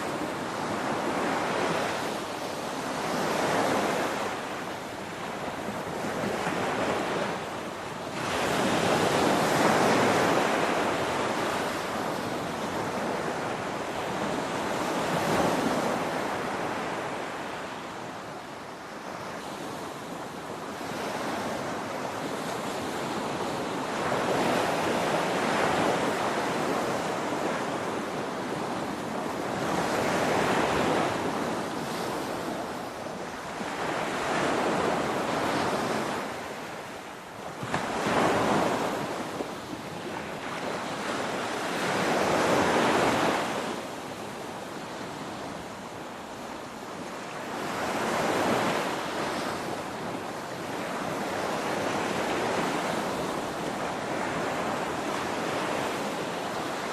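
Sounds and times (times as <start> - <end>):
ocean waves crashing on shore: 0.0 - 56.9.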